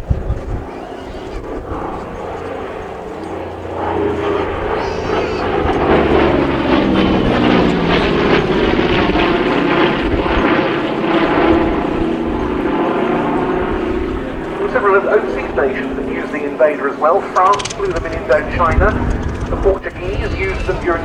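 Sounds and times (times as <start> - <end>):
propeller plane flying by: 0.0 - 21.0.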